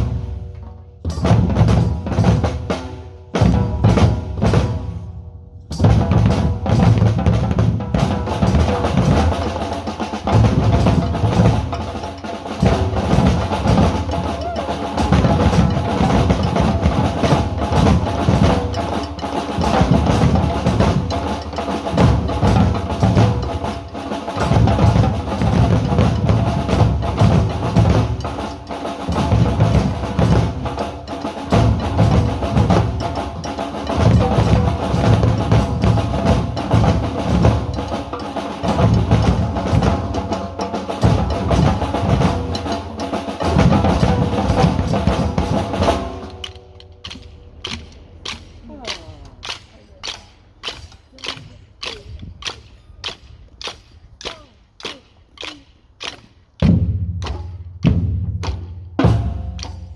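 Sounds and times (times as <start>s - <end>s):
group drumming on bass and snare: 0.0s - 59.9s.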